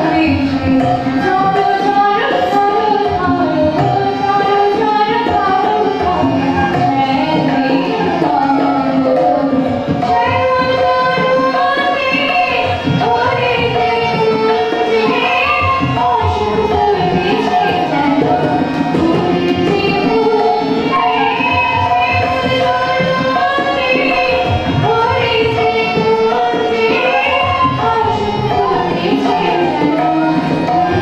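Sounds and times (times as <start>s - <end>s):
harmonium: 0.0s - 31.0s
woman singing: 0.0s - 31.0s.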